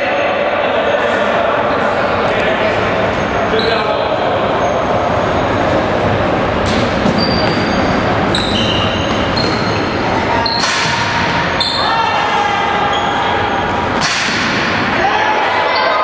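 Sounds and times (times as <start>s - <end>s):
hall noise hum: 1.0s - 15.4s
shoes squeaking on court floor: 1.7s - 14.8s.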